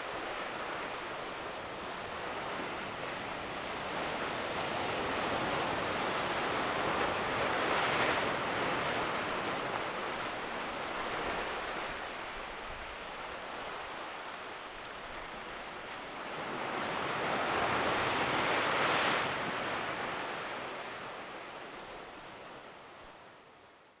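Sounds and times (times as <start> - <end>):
ocean surf against rocks: 0.0 - 22.6.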